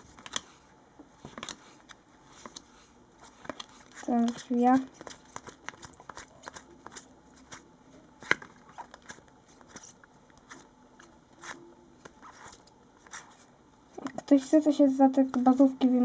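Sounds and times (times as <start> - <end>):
trading cards clicking and rustling: 0.0 - 0.6, 1.2 - 14.6.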